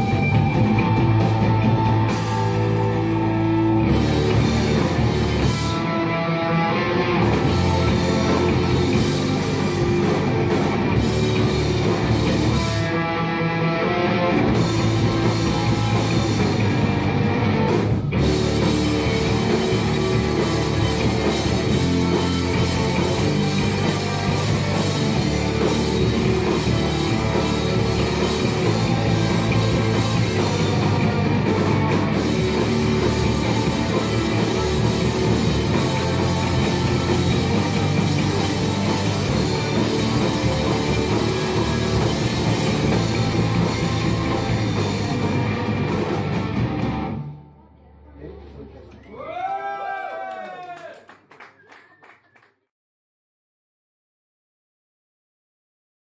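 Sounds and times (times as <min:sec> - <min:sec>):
drum kit: 0:00.0 - 0:47.5
electric guitars: 0:00.0 - 0:48.6
bass guitar: 0:00.0 - 0:49.5.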